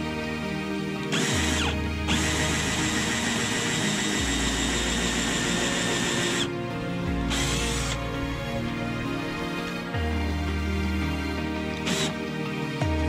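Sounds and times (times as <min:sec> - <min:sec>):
cordless drill whining: 0:00.0 - 0:12.4.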